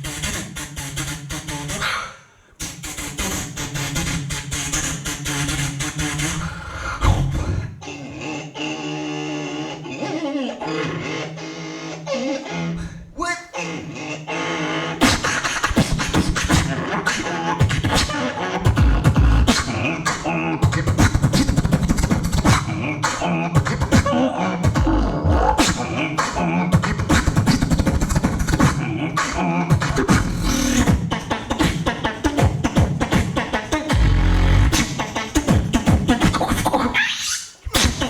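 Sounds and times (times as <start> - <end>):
beatboxing into a microphone: 0.0 - 38.0.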